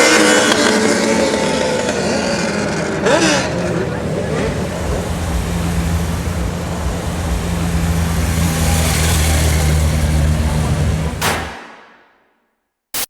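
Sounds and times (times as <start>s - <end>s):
street noise: 0.0s - 11.8s
motorcycle engine idling: 0.5s - 11.3s.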